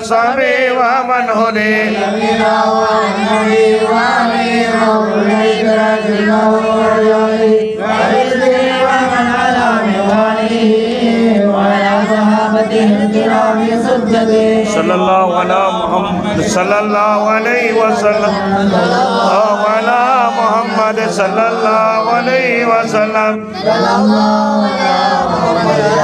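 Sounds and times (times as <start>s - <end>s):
men chanting into a microphone: 0.0s - 26.0s.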